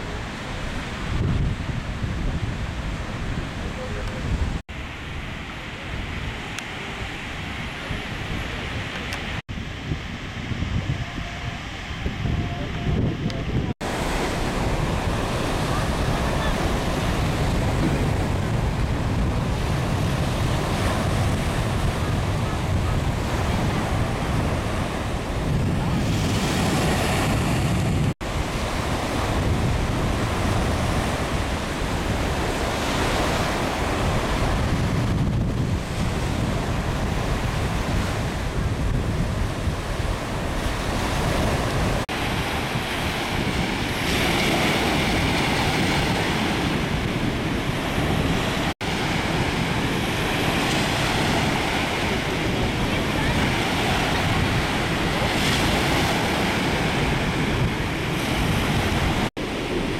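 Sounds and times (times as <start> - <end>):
waves breaking on beach: 0.0 - 59.9
wind buffeting microphone: 0.0 - 59.9.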